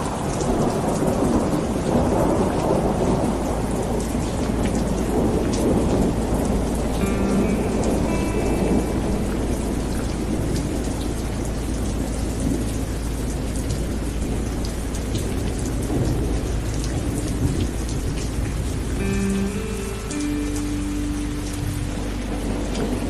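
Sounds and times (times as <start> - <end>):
rain on wet pavement: 0.0 - 23.0
low rumble of thunder: 0.1 - 19.0.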